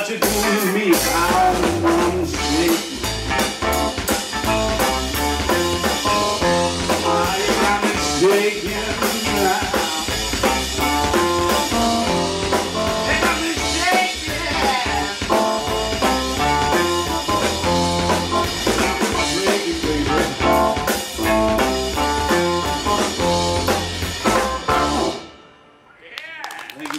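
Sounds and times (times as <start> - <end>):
live band playing instrumental: 0.0 - 25.6.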